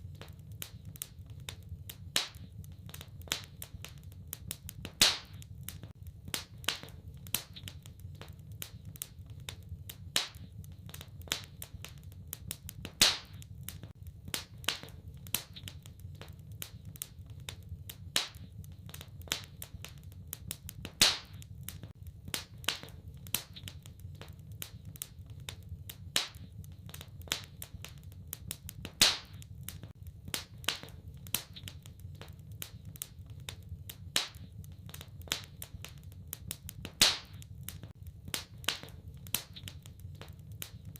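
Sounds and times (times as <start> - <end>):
fire popping: 0.0 - 40.9
low rumble of burning fire: 0.0 - 40.9
wood fire crackling: 0.0 - 40.9.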